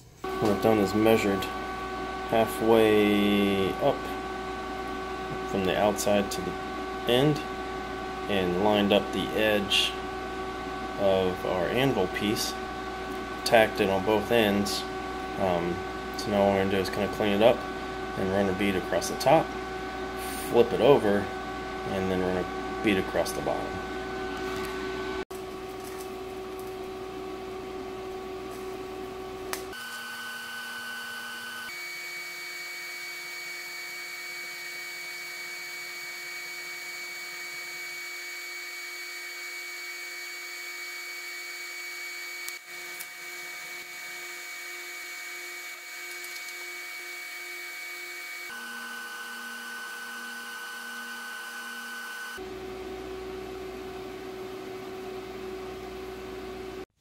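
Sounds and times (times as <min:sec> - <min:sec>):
welder arc humming: 0:00.0 - 0:56.9.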